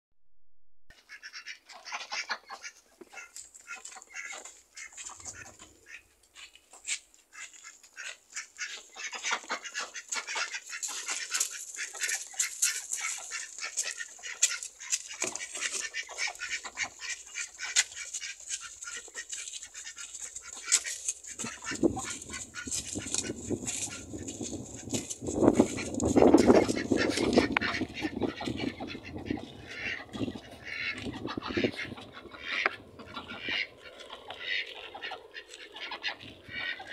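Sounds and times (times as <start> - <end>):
ducks quacking: 0.9 - 36.9.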